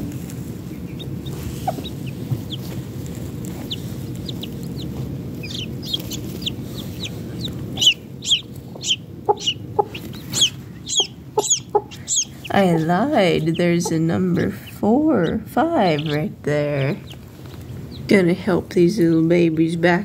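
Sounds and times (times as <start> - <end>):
baby chicks peeping: 0.0 - 20.0
low rumbling noise: 0.0 - 20.0.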